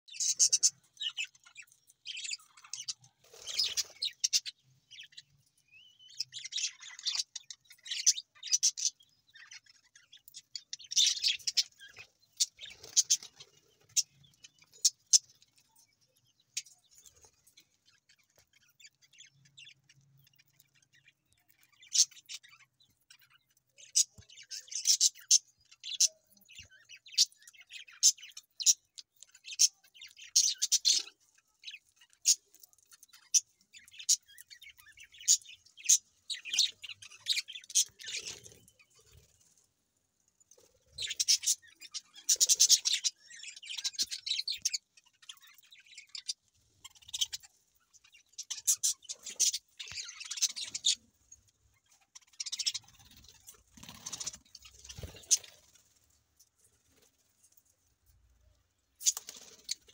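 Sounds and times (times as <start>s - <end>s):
budgerigars chirping: 0.1s - 15.5s, 16.4s - 39.2s, 40.7s - 51.1s, 51.7s - 55.6s, 59.0s - 59.9s.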